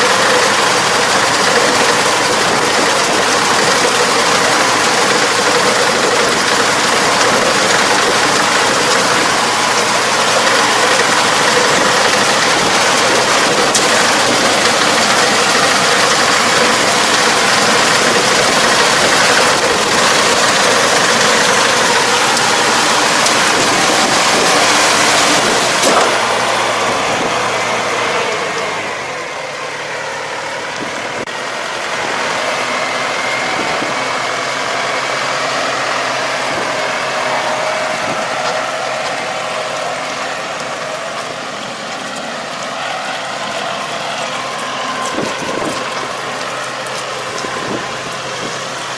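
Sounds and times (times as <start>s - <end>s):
farm machine engine running: 0.0s - 48.9s.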